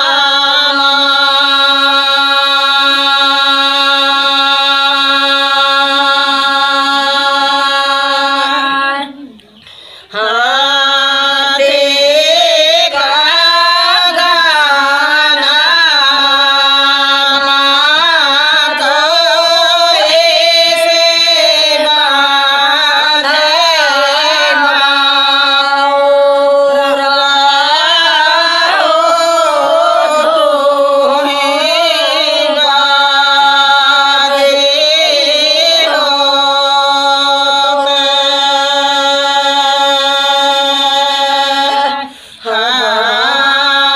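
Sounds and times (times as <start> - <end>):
women singing in unison: 0.0 - 43.9.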